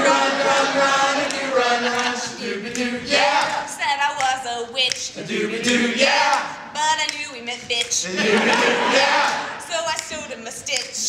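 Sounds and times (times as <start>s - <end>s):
voices singing doo-wop: 0.0s - 11.0s.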